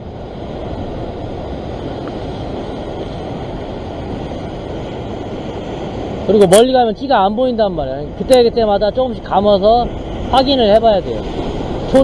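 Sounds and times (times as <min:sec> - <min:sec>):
waves washing over rocks: 0:00.0 - 0:12.0
wind rumbling on microphone: 0:00.0 - 0:12.0.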